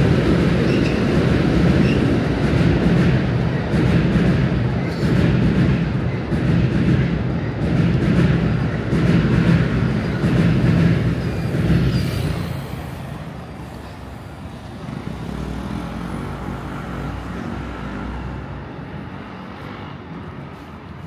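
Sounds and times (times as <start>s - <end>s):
urban traffic noise: 0.0s - 21.0s.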